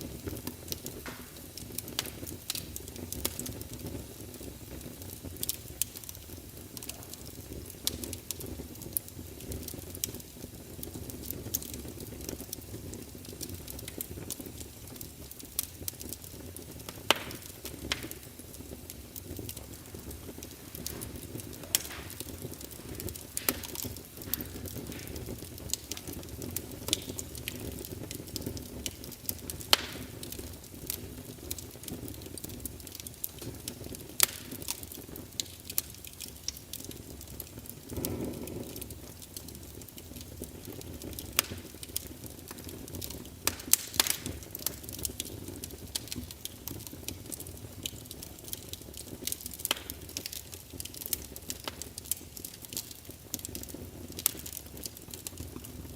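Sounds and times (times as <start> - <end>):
crackling wood fire: 0.0 - 55.9.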